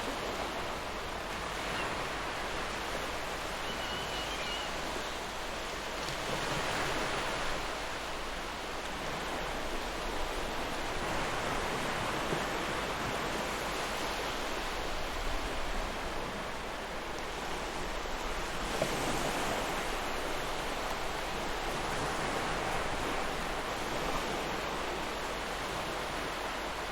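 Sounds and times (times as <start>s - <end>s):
ocean waves washing ashore: 0.0s - 26.9s.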